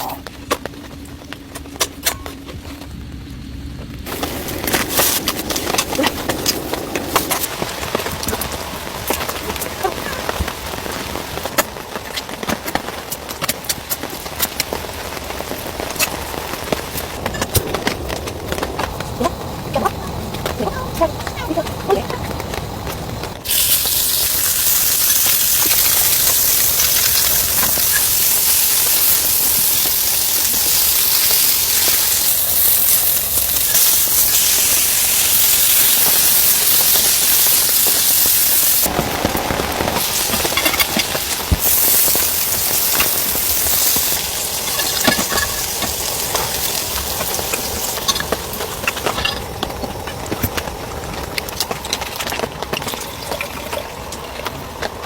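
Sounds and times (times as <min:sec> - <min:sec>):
heavy rain falling: 0:03.8 - 0:55.0.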